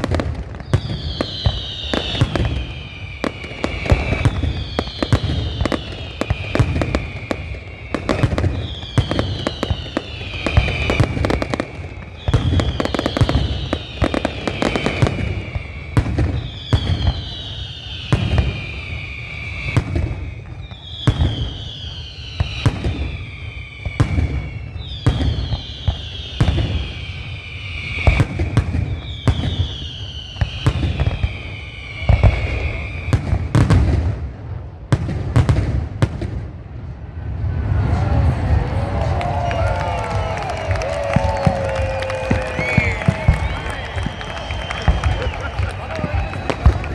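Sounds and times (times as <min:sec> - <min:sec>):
high falling firework whistle: 0:00.0 - 0:34.2, 0:37.1 - 0:46.9
fireworks bangs and crackles: 0:00.0 - 0:46.9.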